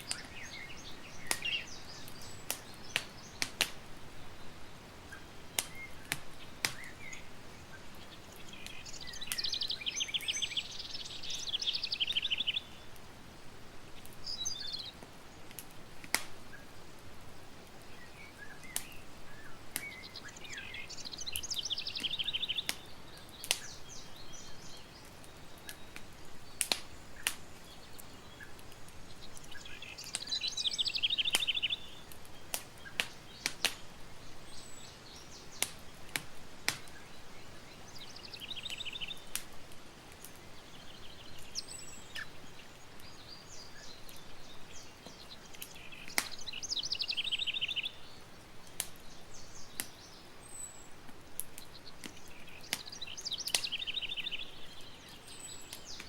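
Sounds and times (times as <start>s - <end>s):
campfire crackling: 0.0s - 56.0s
low steady hiss: 0.0s - 56.0s.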